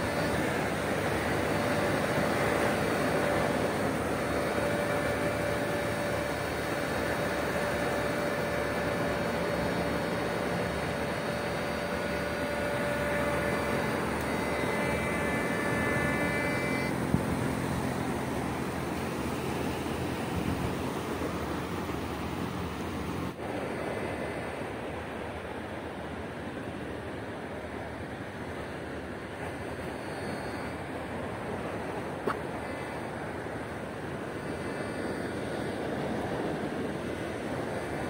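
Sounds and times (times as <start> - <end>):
faint steady whine: 0.0 - 38.0
rushing wind: 0.0 - 38.0.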